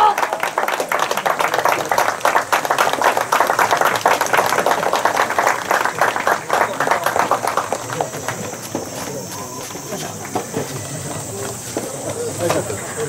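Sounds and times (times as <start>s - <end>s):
spectators applauding: 0.0s - 13.0s.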